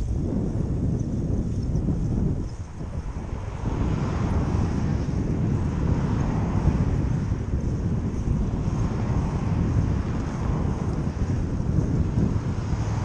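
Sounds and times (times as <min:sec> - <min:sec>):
motor traffic: 0:00.0 - 0:13.0
wind rushing over microphone: 0:00.0 - 0:13.0.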